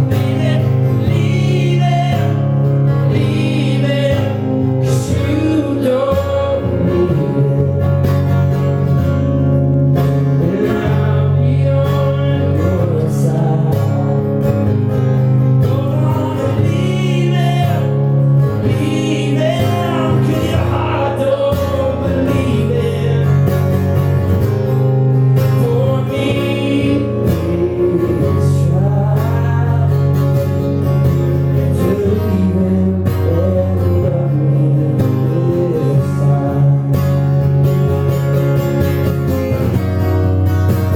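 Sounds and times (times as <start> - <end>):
man singing: 0.0 - 9.3, 10.3 - 14.8, 15.4 - 23.8, 25.4 - 30.6, 31.6 - 37.4
guitar: 0.0 - 40.9.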